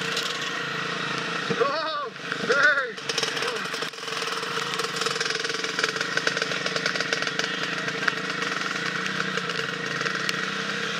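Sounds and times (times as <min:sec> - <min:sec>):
dirt bike engine running: 0:00.0 - 0:10.9.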